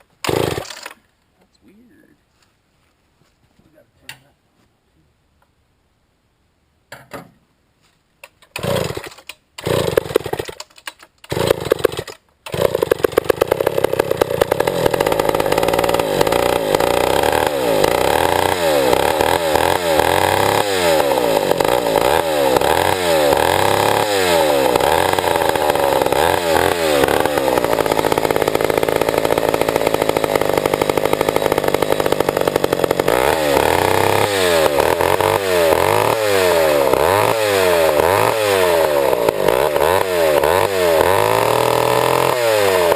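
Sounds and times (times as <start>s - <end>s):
chainsaw engine revving: 0.2s - 1.0s, 8.5s - 42.9s.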